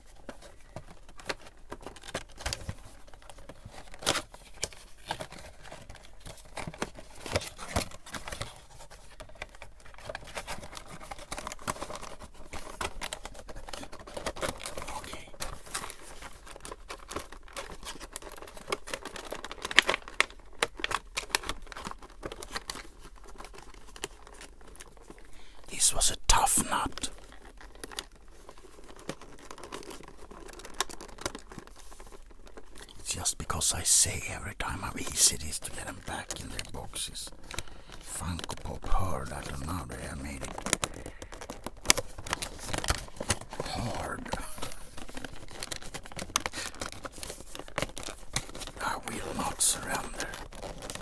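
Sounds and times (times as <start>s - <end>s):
plastic packaging crinkling: 0.0s - 51.0s.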